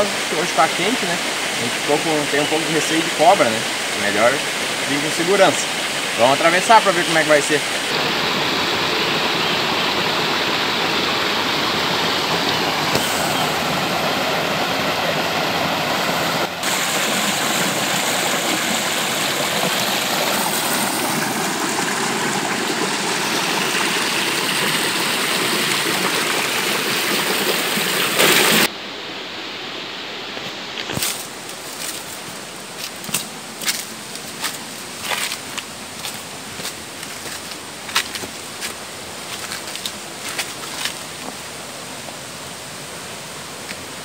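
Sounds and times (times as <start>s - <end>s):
stream rushing over boulders: 0.0s - 44.0s.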